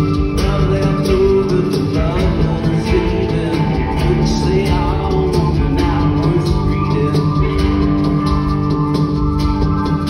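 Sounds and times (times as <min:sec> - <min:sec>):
drum kit beat: 0:00.0 - 0:10.0
electric guitars: 0:00.0 - 0:10.0
keyboard: 0:00.0 - 0:10.0.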